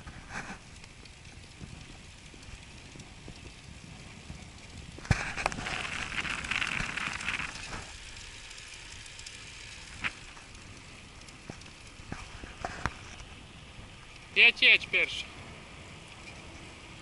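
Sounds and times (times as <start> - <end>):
crackling and rattling: 0.0 - 14.4
bicycle rolling on asphalt: 0.0 - 17.0.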